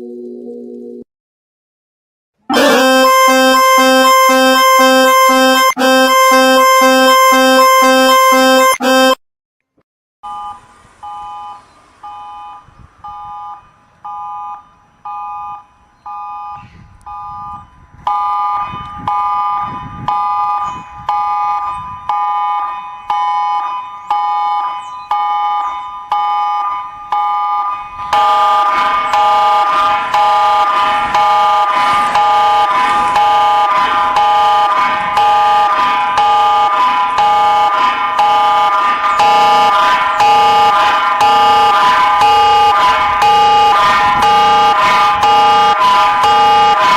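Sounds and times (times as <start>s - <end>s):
electronic emergency alert beeping: 2.5s - 9.2s, 10.2s - 46.9s.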